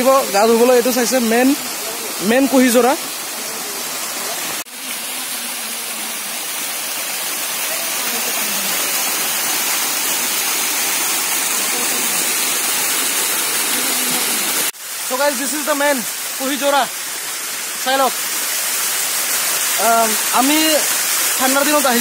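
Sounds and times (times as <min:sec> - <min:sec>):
water falling over rocks: 0:00.0 - 0:22.0.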